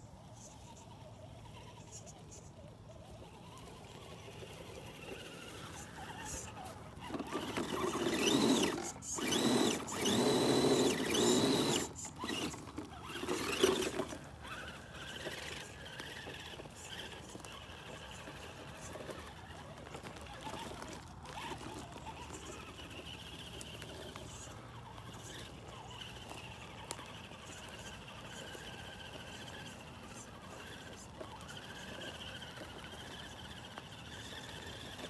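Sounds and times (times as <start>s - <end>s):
electric motor and gears whining: 0.7s - 35.0s.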